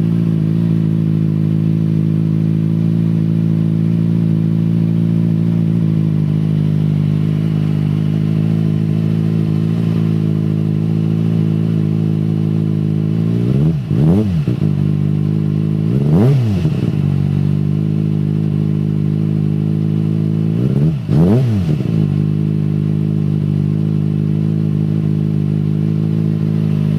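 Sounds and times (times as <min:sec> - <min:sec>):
engine throttle blips: 0:00.0 - 0:26.9
motorcycle engine idling: 0:00.0 - 0:26.9.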